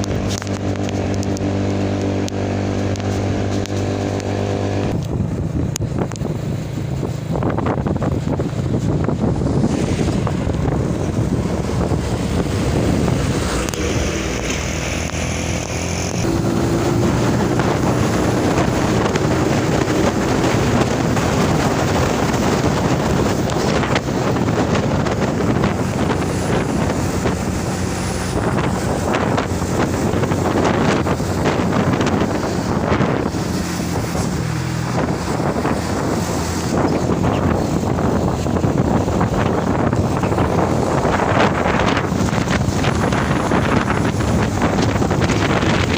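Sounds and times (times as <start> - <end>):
road and wind noise: 0.0 - 45.9
vehicle engine running: 0.0 - 45.9
wind buffeting microphone: 0.0 - 45.9.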